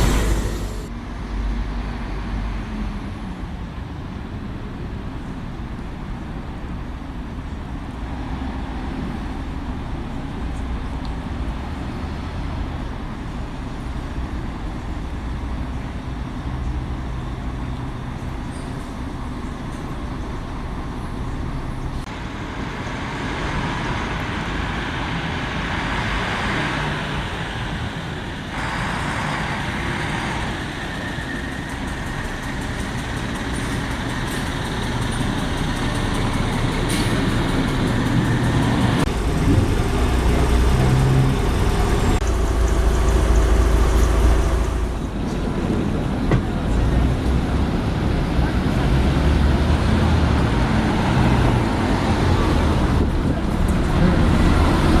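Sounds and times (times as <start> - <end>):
street traffic engines droning: 0.0 - 55.0.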